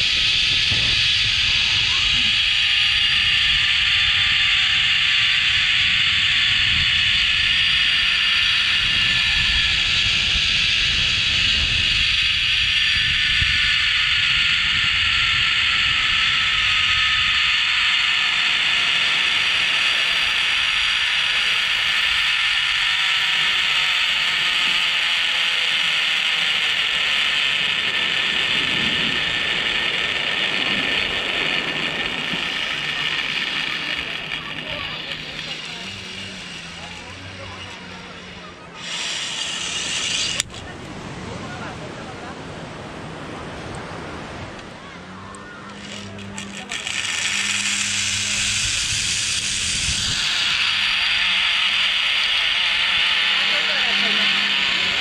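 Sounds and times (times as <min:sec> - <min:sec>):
pulley whirring on cable: 0:00.0 - 0:41.2, 0:44.4 - 0:55.0
wind on microphone: 0:00.0 - 0:55.0.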